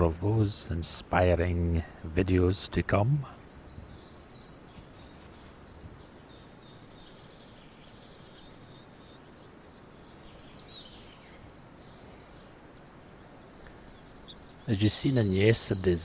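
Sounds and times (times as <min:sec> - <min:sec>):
background hiss: 0:00.0 - 0:16.0
small birds chirping: 0:00.0 - 0:16.0.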